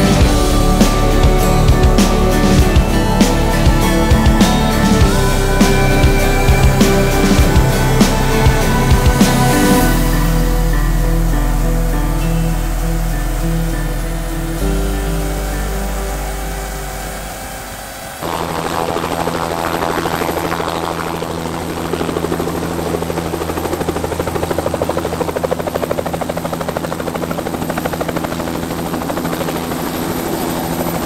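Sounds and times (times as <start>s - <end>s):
helicopter engine tone: 0.0s - 31.0s
helicopter rotor beating: 0.0s - 31.0s.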